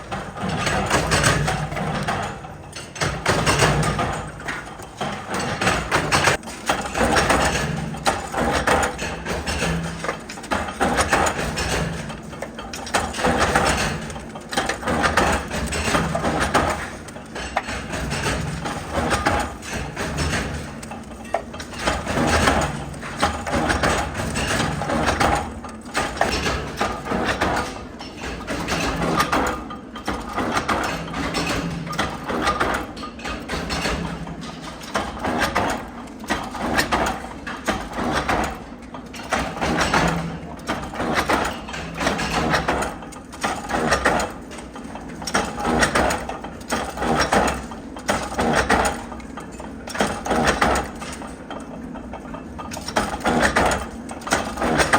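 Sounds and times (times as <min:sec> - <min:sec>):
metalworking machinery clanking: 0:00.0 - 0:54.9.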